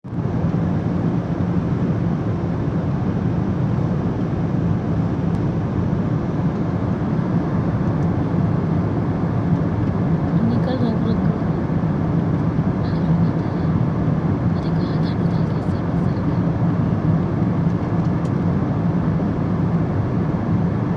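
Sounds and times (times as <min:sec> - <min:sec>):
airliner cabin drone: 0:00.1 - 0:20.9.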